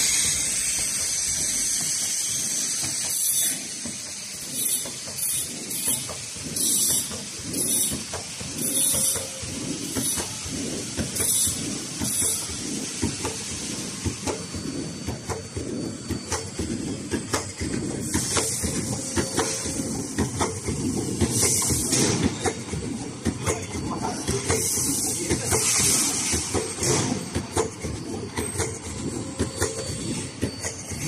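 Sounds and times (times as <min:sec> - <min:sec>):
pleating machine rumble: 0:03.7 - 0:31.0.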